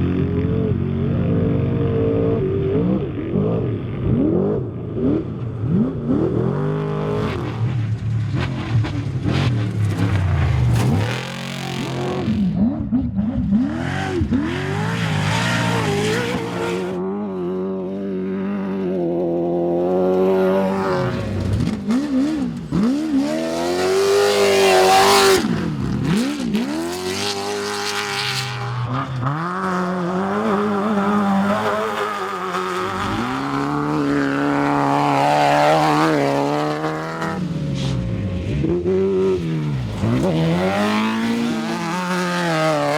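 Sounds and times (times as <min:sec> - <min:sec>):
race car engines revving past: 0:00.0 - 0:42.9.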